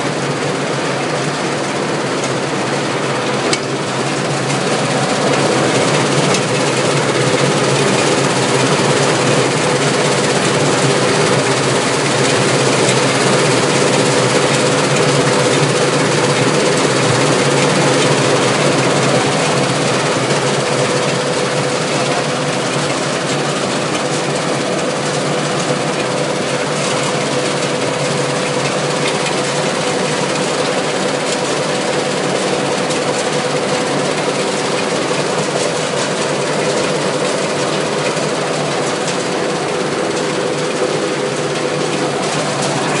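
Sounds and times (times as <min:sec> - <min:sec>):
constant hum: 0:00.0 - 0:43.0
machinery running: 0:00.0 - 0:43.0.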